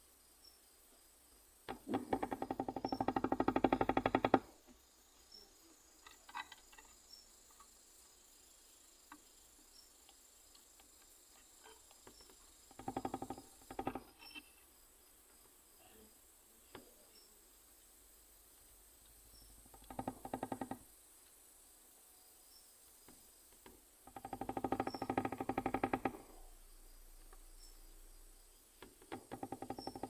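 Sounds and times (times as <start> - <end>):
katydid stridulating clicks: 1.6 - 8.0, 8.8 - 14.6, 16.7 - 21.4, 22.9 - 30.0.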